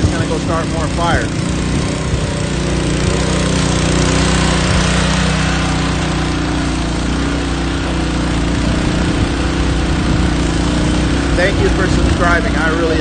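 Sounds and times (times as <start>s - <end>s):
small pump engine running: 0.0s - 13.0s.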